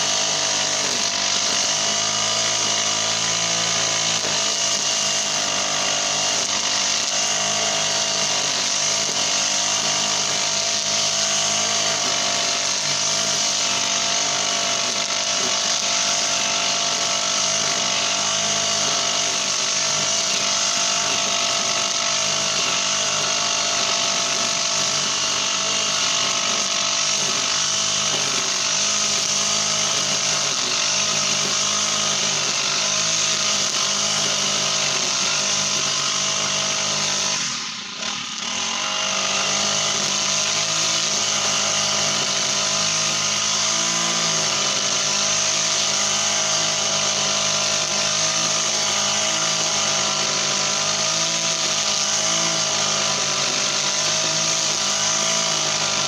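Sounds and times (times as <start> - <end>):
brush cutter engine running: 0.0 - 56.0.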